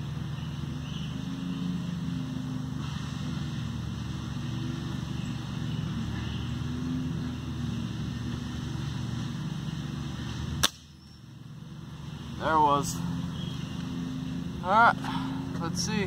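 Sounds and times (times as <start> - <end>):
motor engine droning: 0.0 - 16.0.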